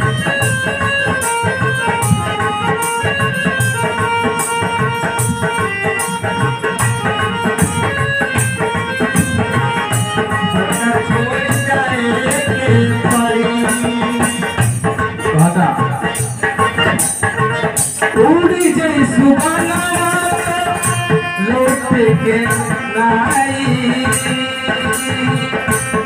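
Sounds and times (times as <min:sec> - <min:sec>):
crisp rattling beat: 0:00.0 - 0:26.0
dholak drum rhythm: 0:00.0 - 0:26.0
harmonium melody: 0:00.0 - 0:26.0.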